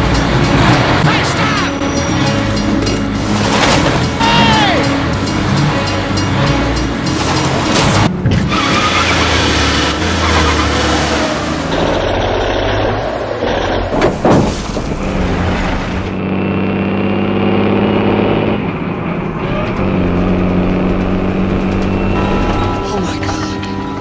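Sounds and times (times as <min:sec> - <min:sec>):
car and truck engines racing: 0:00.0 - 0:24.0.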